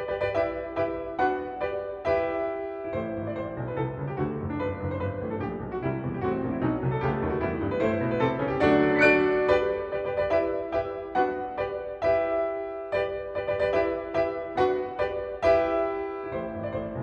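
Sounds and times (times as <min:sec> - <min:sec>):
solo piano playing: 0:00.0 - 0:17.0.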